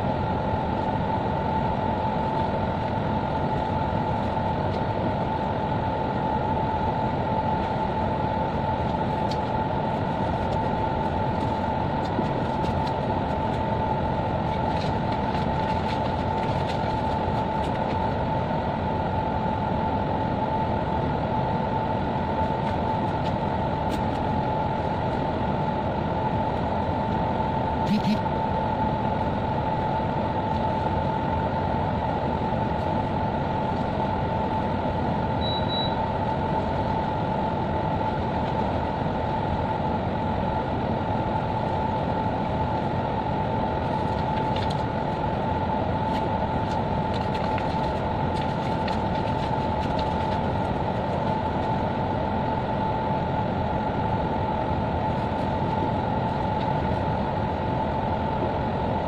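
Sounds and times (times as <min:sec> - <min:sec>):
constant whine: 0:00.0 - 0:59.0
ship machinery drone: 0:00.0 - 0:59.0.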